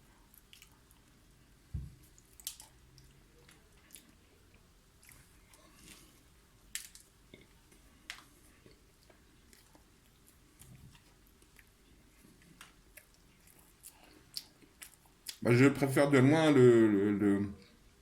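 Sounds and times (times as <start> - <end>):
person chewing food: 0.0 - 15.4.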